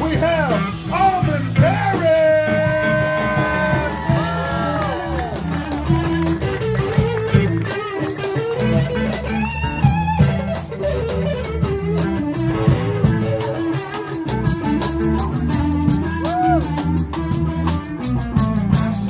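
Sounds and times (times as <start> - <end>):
drums: 0.0 - 19.0
electric guitar solo: 1.5 - 19.0.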